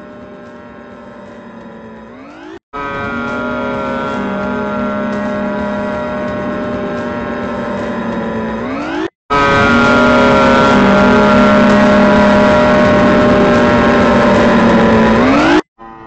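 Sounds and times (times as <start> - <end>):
engine droning: 0.0 - 15.7.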